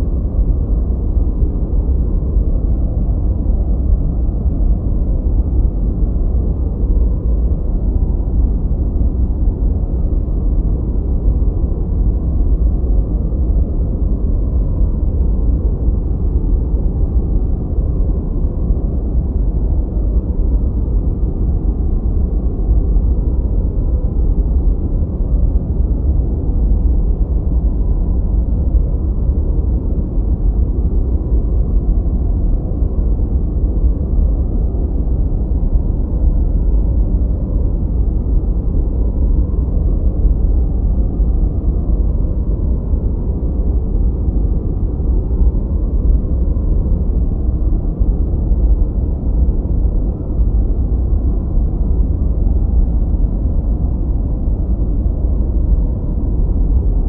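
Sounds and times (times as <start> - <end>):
deep brown noise: 0.0 - 57.0.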